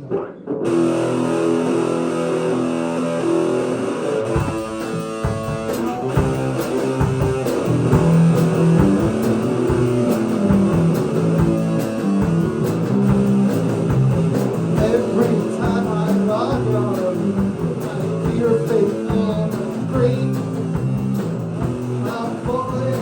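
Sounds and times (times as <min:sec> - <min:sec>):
electric guitar with bass: 0:00.0 - 0:23.0
drums steady beat: 0:04.3 - 0:23.0.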